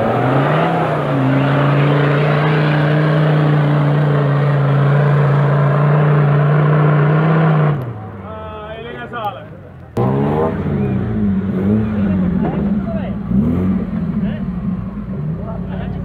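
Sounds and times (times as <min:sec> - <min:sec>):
off-road vehicle engine revving: 0:00.0 - 0:08.3, 0:09.9 - 0:16.0.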